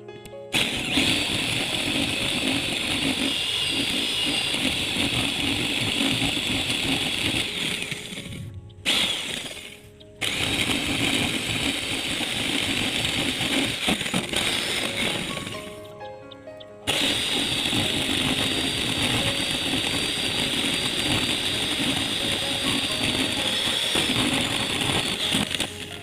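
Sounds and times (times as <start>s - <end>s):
power tool grinding: 0.5s - 15.9s, 16.8s - 26.0s.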